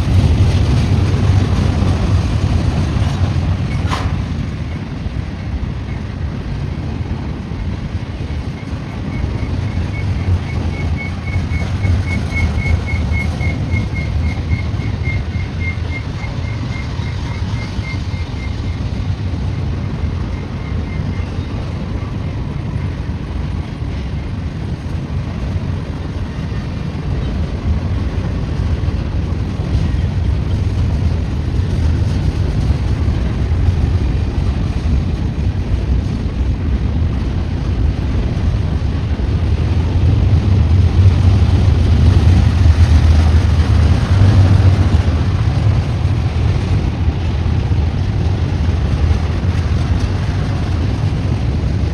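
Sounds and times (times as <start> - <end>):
freight train rumble: 0.0 - 51.9.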